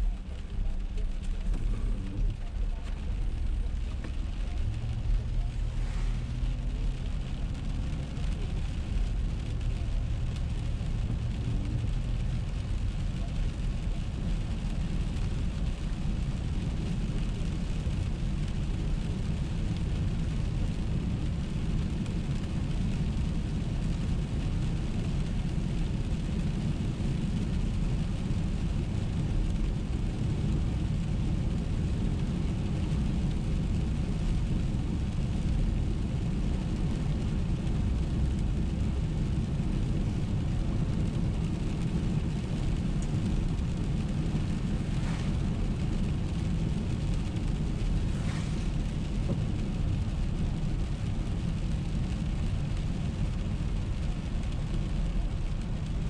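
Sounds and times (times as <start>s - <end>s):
engine and tyre rumble: 0.0s - 56.0s
rain on windshield: 0.0s - 56.0s
tyres hissing on wet road: 0.0s - 56.0s.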